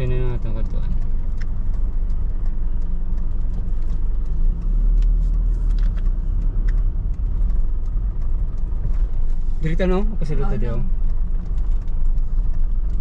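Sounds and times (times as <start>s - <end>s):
car engine and tyre rumble: 0.0s - 13.0s
faint ticks: 0.0s - 13.0s.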